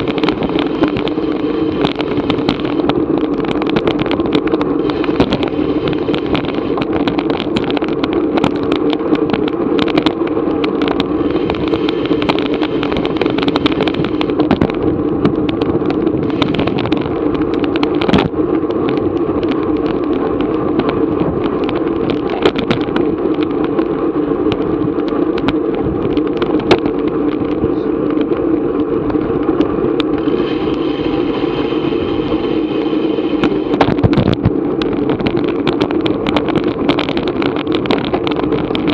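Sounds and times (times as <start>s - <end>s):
bicycle road noise: 0.0s - 38.9s
sharp clicks and ticks: 0.0s - 38.9s
wind rush: 0.0s - 38.9s.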